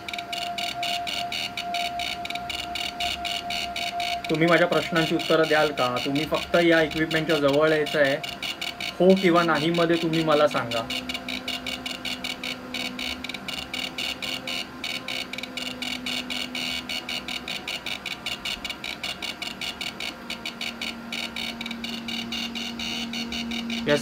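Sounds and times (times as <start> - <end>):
electronic ticking buzz: 0.0 - 24.0
low steady hum: 0.0 - 24.0.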